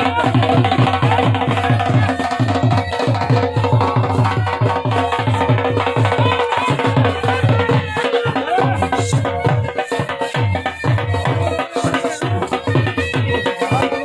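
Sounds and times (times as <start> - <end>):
drum beating fast rhythm: 0.0 - 14.0.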